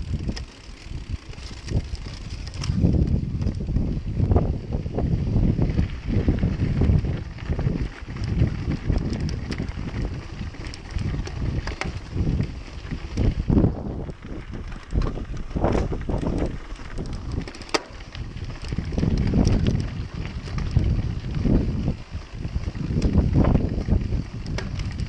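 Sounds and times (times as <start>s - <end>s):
bike clicks and rattles: 0.0s - 25.0s
wind rumbling on microphone: 0.0s - 25.0s.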